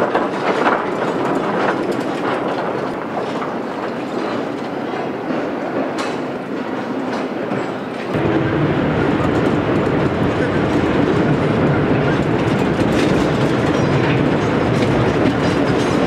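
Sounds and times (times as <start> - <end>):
mine train running: 0.0 - 16.0
wheels clicking on rails: 0.0 - 16.0.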